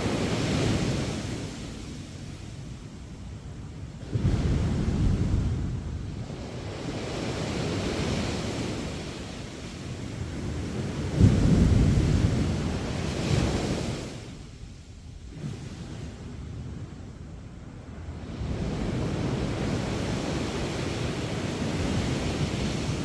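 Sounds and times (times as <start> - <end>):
waves crashing: 0.0 - 2.6, 4.0 - 14.5, 15.2 - 23.0
surf hissing up sand: 0.0 - 2.9, 3.9 - 23.0.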